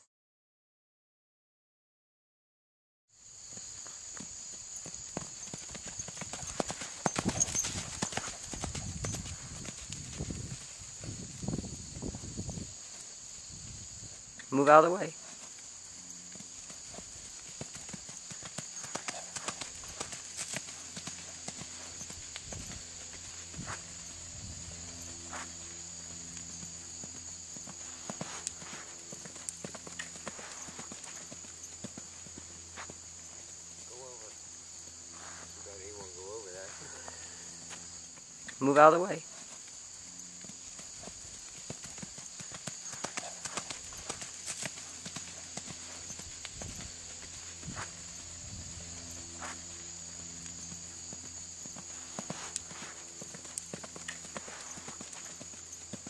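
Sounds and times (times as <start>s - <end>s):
hoofbeats on sand: 3.5s - 14.2s, 15.1s - 33.8s, 39.2s - 56.0s.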